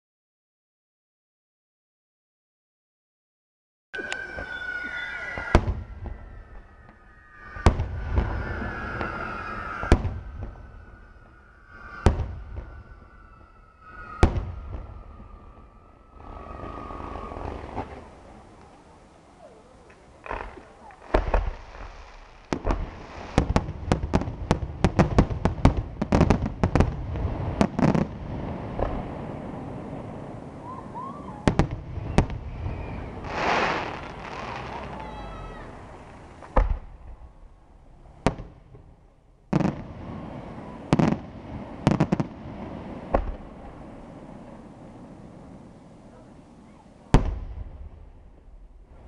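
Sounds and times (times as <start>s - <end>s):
fireworks crackling: 4.0s - 37.2s, 39.5s - 49.0s
firework bursts and bangs: 5.4s - 18.9s, 19.9s - 37.4s, 39.5s - 46.0s, 47.0s - 49.0s.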